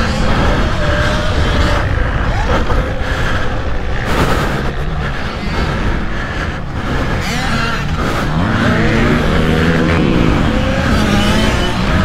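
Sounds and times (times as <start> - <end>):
pit bike engines revving: 0.0 - 12.0.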